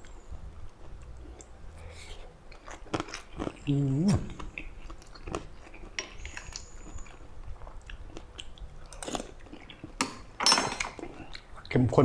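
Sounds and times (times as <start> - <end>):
person chewing and smacking: 0.0 - 11.8.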